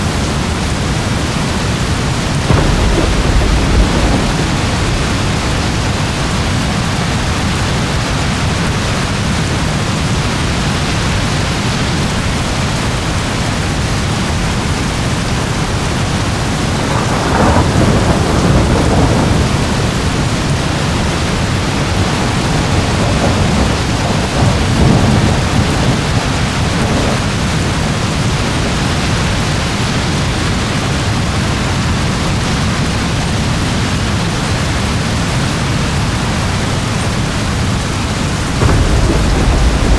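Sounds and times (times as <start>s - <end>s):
heavy rain: 0.0s - 39.9s
distant thunder rumbling: 0.2s - 12.6s, 13.7s - 30.2s, 36.0s - 39.9s.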